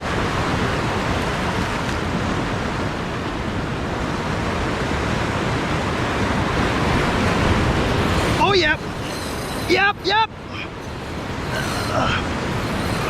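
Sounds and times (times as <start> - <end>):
ocean surf rushing: 0.0 - 13.0
wind rumbling on microphone: 0.0 - 13.0.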